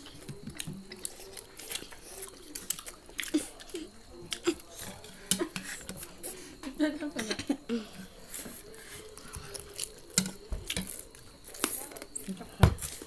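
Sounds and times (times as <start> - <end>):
child chewing food: 0.0 - 13.0.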